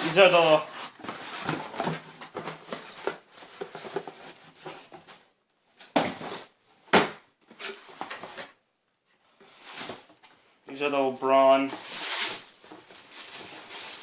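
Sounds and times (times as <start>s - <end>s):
box and packaging rustling: 0.0s - 14.0s.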